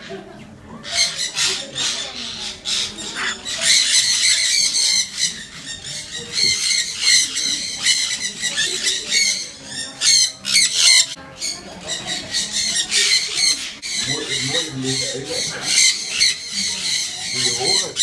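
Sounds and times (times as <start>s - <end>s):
birds squawking and chirping: 0.0s - 18.0s.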